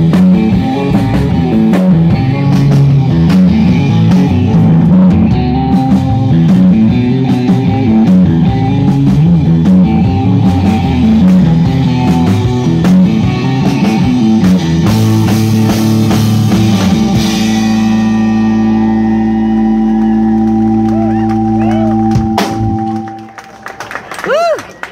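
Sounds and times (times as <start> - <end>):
surf rock band playing live: 0.0 - 24.1.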